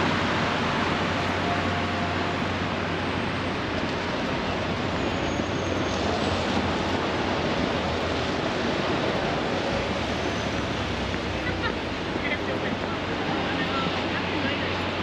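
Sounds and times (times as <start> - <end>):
hiss of wet street in rain: 0.0 - 15.0
low hum of traffic: 0.0 - 15.0.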